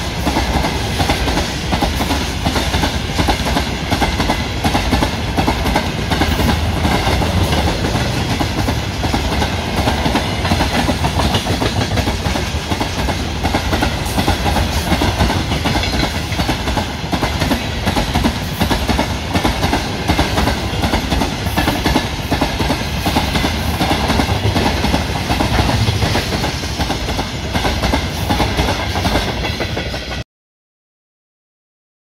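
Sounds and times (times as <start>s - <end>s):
freight train rolling past: 0.0s - 30.2s
wheels clacking over rail joints: 0.2s - 30.2s.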